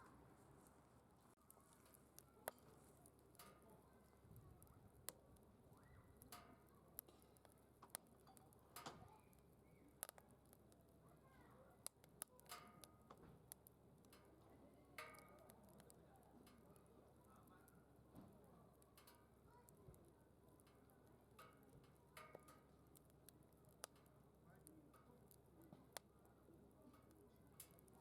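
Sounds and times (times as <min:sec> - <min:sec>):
wood fire crackling and popping: 0:01.3 - 0:28.0.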